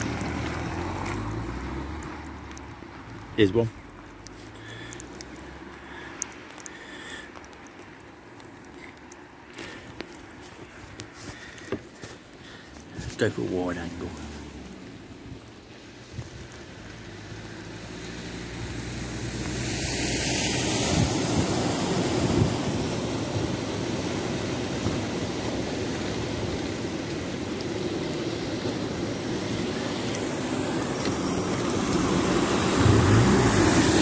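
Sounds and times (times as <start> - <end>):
tyres rushing through floodwater: 0.0 - 34.0.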